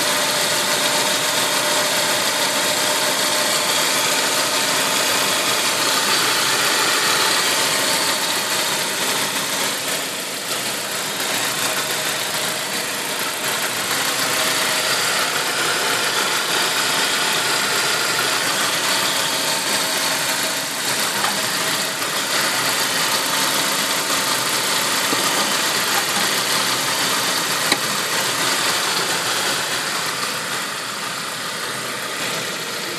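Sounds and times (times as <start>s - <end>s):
strange engine noise: 0.0s - 32.9s
car engine idling: 0.1s - 32.9s.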